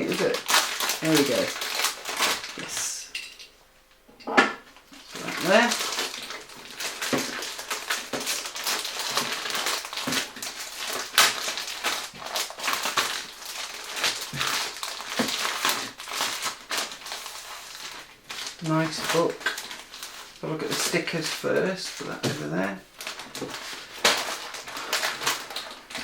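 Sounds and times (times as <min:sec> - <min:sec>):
packaging rustling and crackling: 0:00.0 - 0:03.4, 0:04.8 - 0:26.0.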